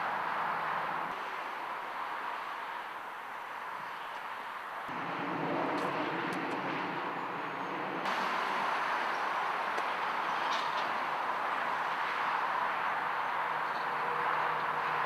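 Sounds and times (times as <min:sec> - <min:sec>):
distant vehicle noise hiss: 0:00.0 - 0:15.0.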